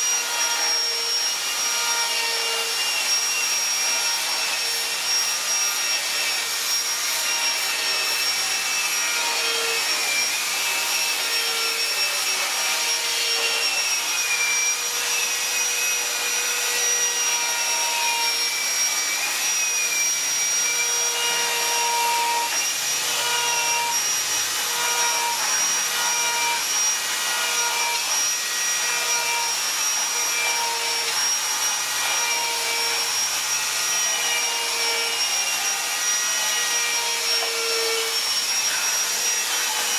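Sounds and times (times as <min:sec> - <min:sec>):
rotary tool whining against wood: 0:00.0 - 0:39.9.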